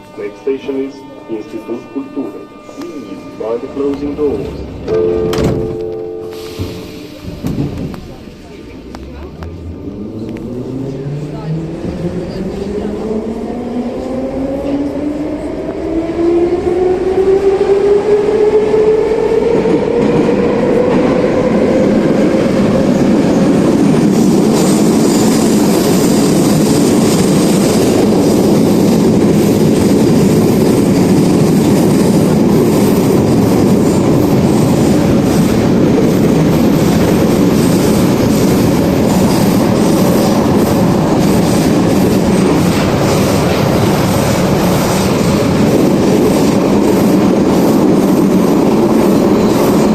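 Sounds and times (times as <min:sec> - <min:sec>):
train car rumbling on rails: 0:02.5 - 0:49.9.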